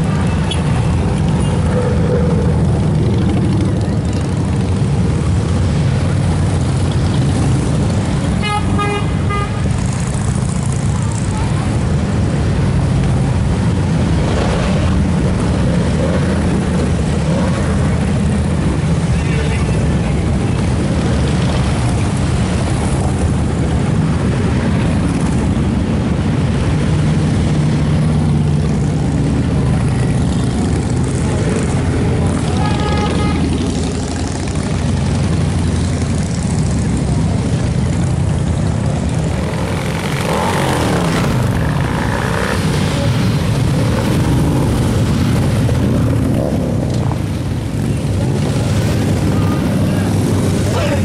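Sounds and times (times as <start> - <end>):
motorcycle engines rumbling: 0.0 - 51.0.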